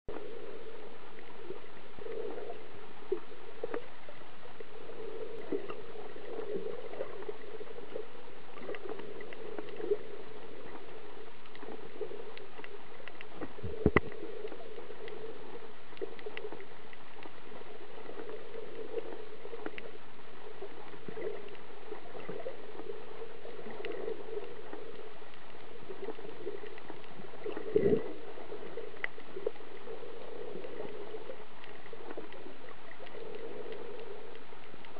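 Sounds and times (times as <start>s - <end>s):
faint clicks: 0.1s - 34.9s
muffled underwater water noise: 0.1s - 34.9s.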